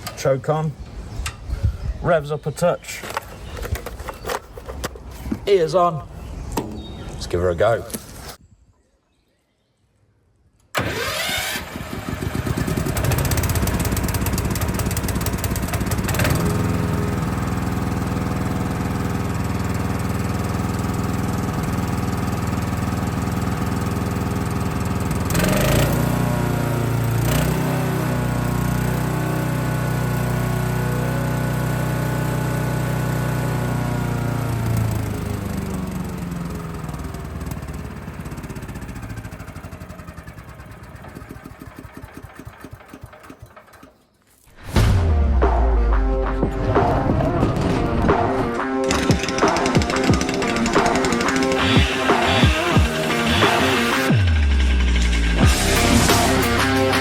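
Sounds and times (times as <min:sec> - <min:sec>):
wood chipper engine running: 0:10.8 - 0:57.0.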